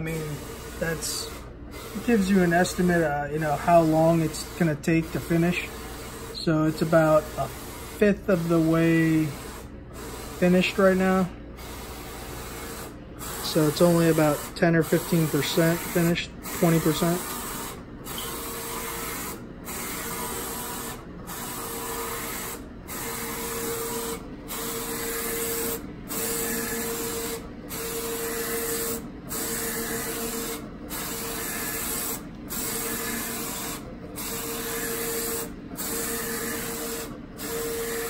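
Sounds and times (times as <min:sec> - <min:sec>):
inkjet printer carriage whirring: 0:00.0 - 0:38.0.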